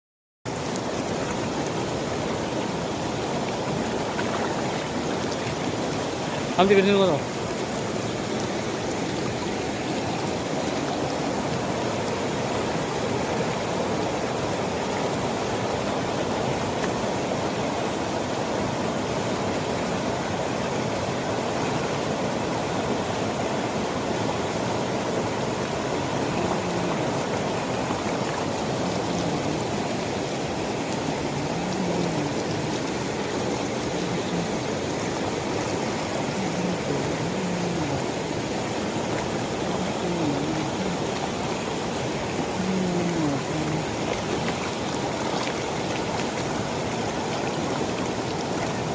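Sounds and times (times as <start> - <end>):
waterfall rushing water: 0.5 - 48.9.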